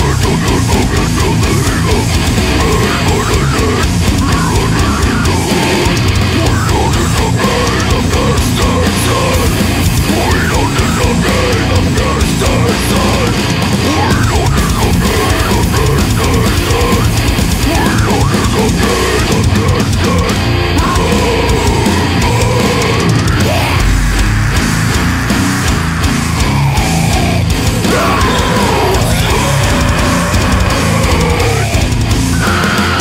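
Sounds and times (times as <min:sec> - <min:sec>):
distorted guitars: 0:00.0 - 0:33.0
drums: 0:00.0 - 0:33.0.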